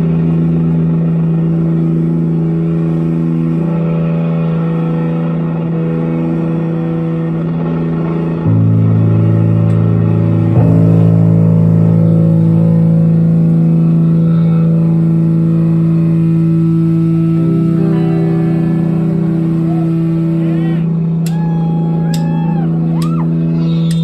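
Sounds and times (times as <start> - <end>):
electric guitar chords: 0.0 - 24.0.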